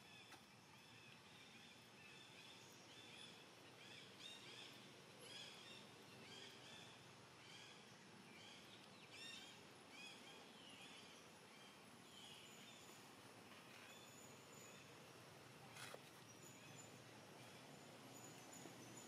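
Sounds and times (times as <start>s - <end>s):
low outdoor hiss: 0.0s - 19.0s.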